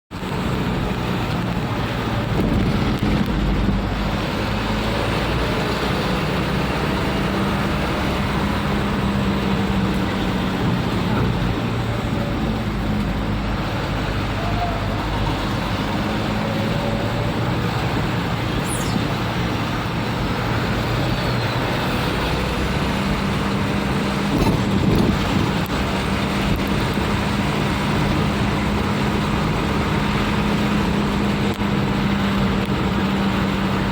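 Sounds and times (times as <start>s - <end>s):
road and traffic noise: 0.1s - 33.9s
vehicle engine running: 0.1s - 33.9s.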